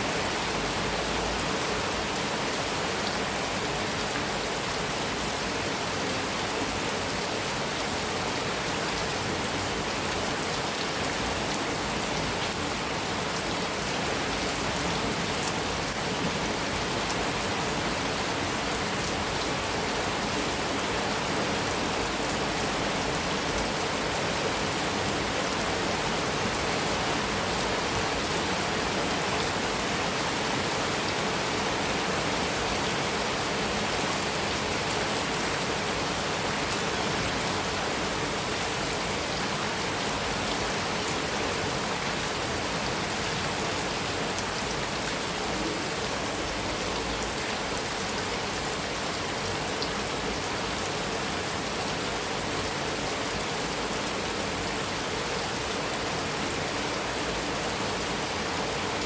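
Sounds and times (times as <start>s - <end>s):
heavy rain on a metal roof: 0.0s - 59.0s.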